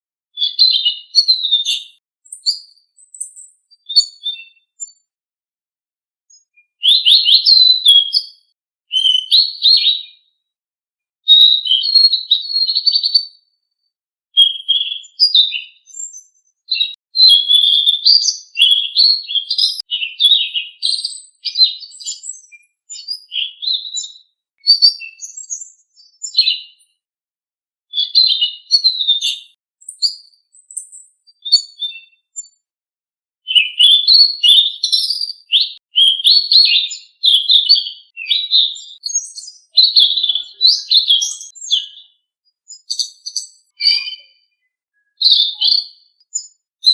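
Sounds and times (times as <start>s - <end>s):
songbird chirping and trilling: 0.4s - 5.1s, 6.3s - 10.4s, 11.3s - 13.8s, 14.4s - 27.0s, 27.9s - 32.6s, 33.5s - 46.9s.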